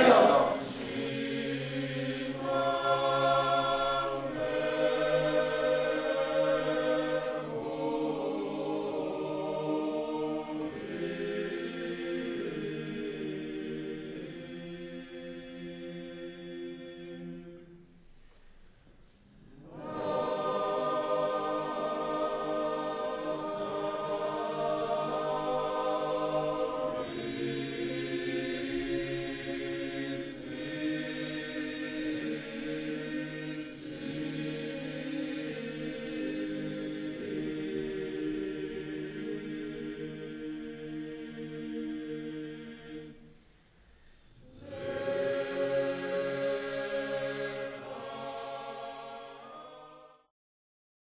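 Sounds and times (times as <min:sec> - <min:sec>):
choir singing: 0:00.0 - 0:18.0, 0:19.5 - 0:43.5, 0:44.3 - 0:50.3.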